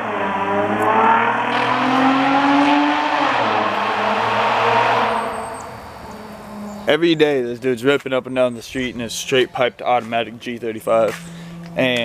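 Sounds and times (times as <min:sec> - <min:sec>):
car exhaust accelerating: 0:00.0 - 0:08.1, 0:09.0 - 0:12.0.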